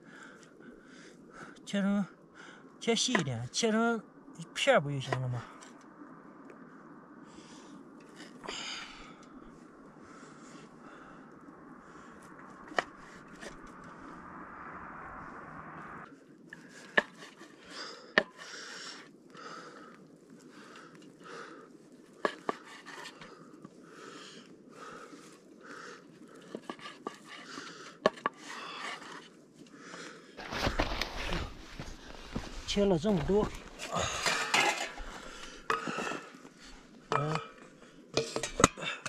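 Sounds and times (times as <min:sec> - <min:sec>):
heavy breaths: 0:00.0 - 0:02.8, 0:07.2 - 0:14.9, 0:16.6 - 0:39.0.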